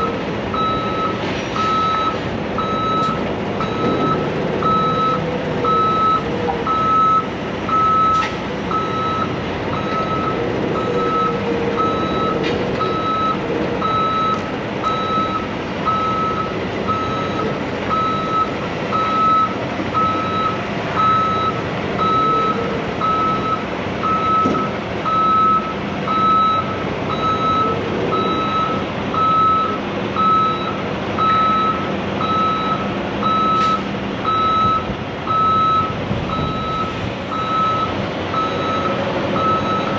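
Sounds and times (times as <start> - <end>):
backup alarm beeping: 0.0 - 39.9
diesel engine running: 0.0 - 39.9.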